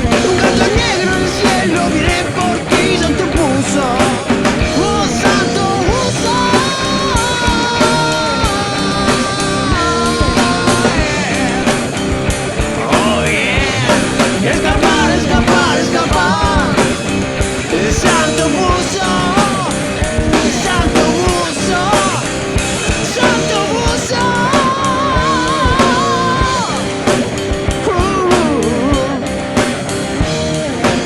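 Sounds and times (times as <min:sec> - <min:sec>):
heavy metal band music: 0:00.0 - 0:31.0
lead guitar vibrato: 0:00.0 - 0:31.0.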